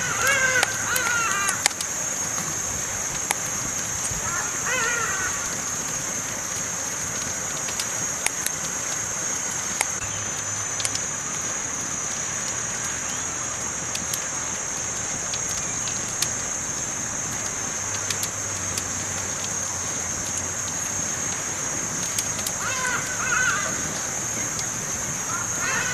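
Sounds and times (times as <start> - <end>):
campfire crackling and popping: 0.0 - 25.9
fire hissing: 0.0 - 25.9.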